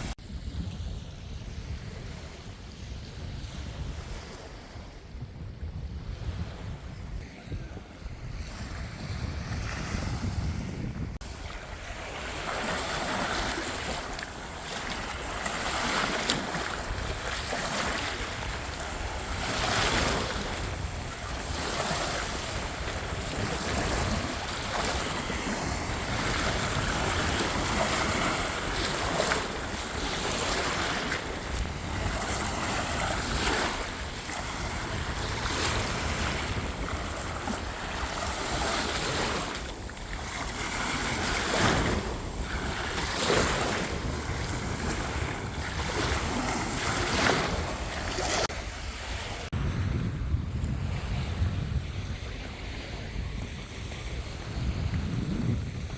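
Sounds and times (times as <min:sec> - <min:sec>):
waves breaking on beach: 0:00.0 - 0:05.1, 0:07.2 - 0:55.9
wind rumbling on microphone: 0:00.0 - 0:55.9.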